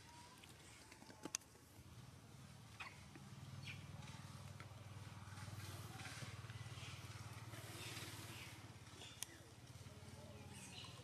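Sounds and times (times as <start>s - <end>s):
engine humming: 0.4s - 11.0s.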